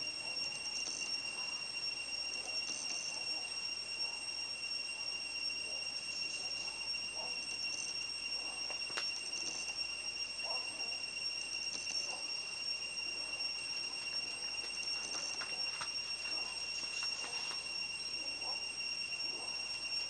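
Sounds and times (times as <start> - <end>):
steady high-pitched whine: 0.0 - 20.0.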